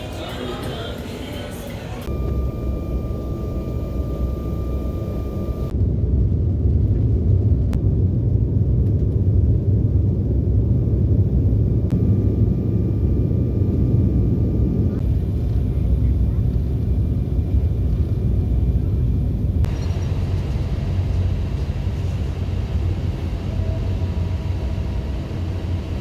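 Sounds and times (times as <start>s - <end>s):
faint steady whine: 0.0s - 5.8s, 7.7s - 26.0s
airliner cabin rumble: 0.0s - 26.0s.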